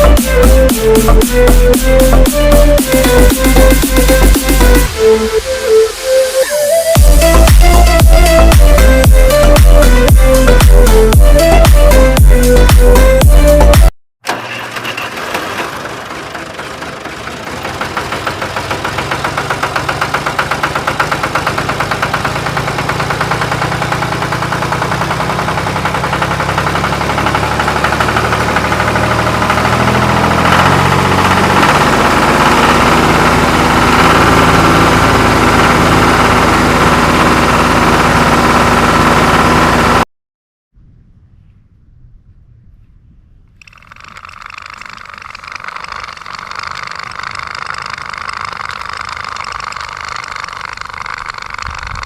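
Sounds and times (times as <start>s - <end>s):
tractor engine knocking: 0.0s - 4.9s, 7.0s - 40.0s, 43.6s - 52.0s.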